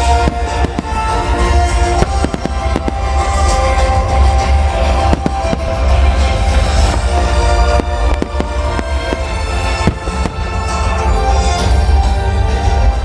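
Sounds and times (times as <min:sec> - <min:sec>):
fireworks bursting: 0:00.0 - 0:11.5
music with heavy bass: 0:00.0 - 0:13.0.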